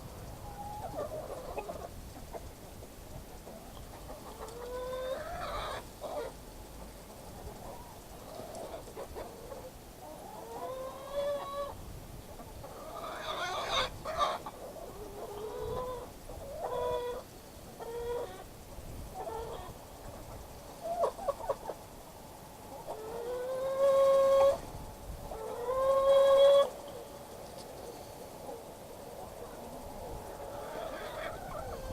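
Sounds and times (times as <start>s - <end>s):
chickens clucking and calling: 0.0s - 31.9s.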